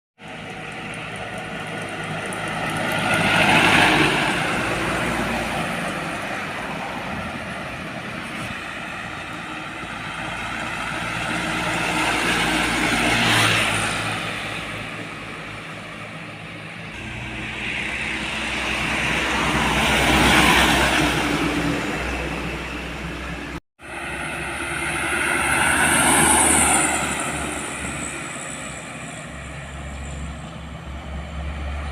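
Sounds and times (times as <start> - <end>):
heavy vehicles passing: 0.2 - 31.9.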